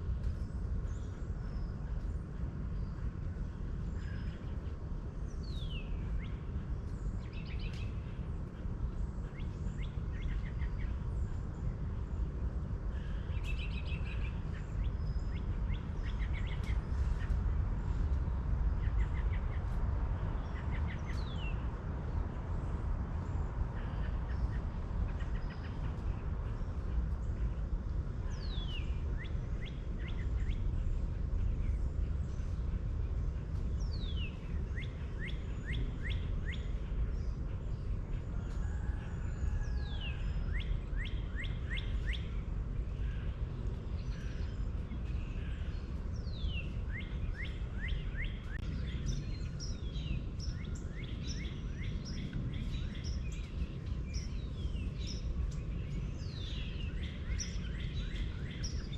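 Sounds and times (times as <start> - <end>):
songbird singing: 0.0 - 58.9
steady low rumble: 0.0 - 58.9.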